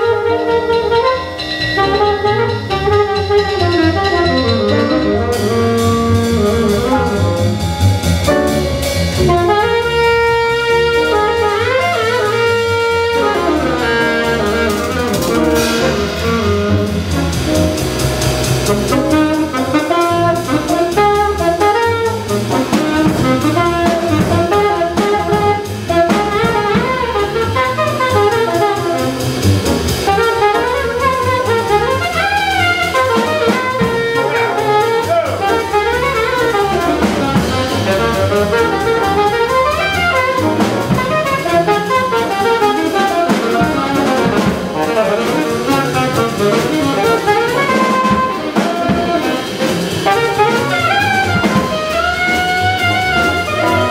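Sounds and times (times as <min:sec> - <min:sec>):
drum kit: 0:00.0 - 0:53.9
grand piano: 0:00.0 - 0:53.9
plucked double bass: 0:00.0 - 0:53.9
saxophone melody: 0:00.0 - 0:53.9.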